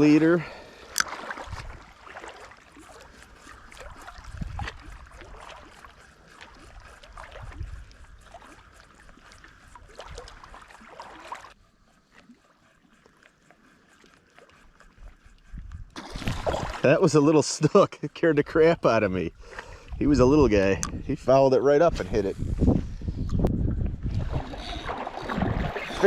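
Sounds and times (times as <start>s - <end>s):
water lapping and sloshing: 0.0s - 26.0s.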